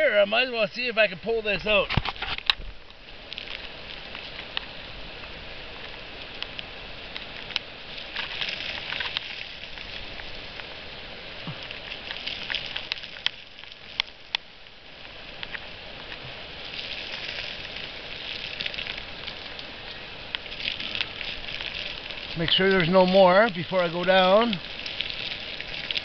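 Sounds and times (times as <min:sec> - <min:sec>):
flaky rock crackling and crumbling: 0:00.0 - 0:26.0.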